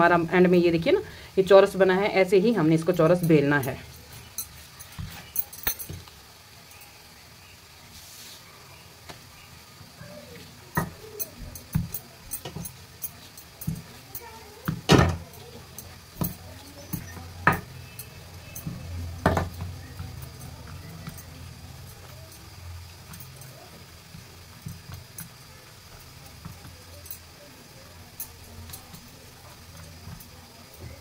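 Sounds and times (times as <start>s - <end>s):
rolling pin rolling dough: 1.5s - 6.2s, 9.0s - 31.0s.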